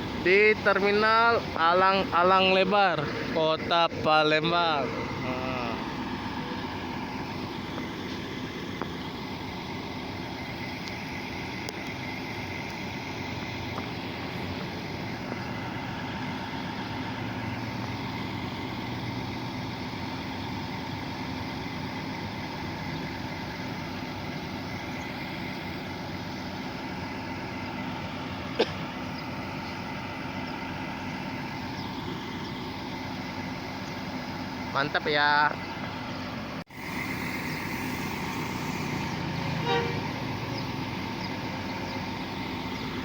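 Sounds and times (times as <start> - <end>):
bus diesel engine idling: 0.0 - 43.0.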